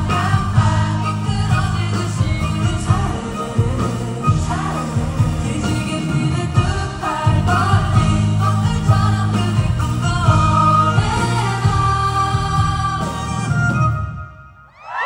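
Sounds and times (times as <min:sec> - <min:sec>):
live pop-rock band with singer: 0:00.0 - 0:15.0.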